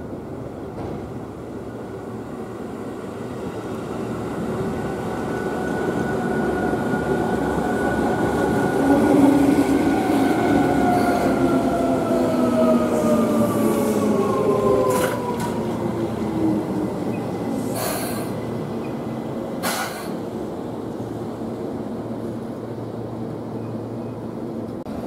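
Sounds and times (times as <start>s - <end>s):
electric train passing: 1.5s - 25.0s.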